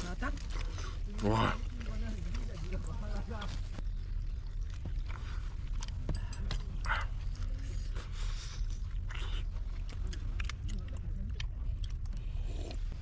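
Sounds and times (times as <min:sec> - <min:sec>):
biting and chewing: 0:00.0 - 0:13.0
low rumble: 0:00.0 - 0:13.0.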